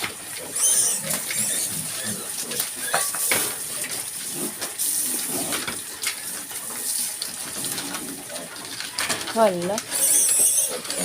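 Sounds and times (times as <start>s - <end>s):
piglets grunting: 0.0s - 5.9s, 6.8s - 11.0s
piglets scuffling: 0.0s - 11.0s.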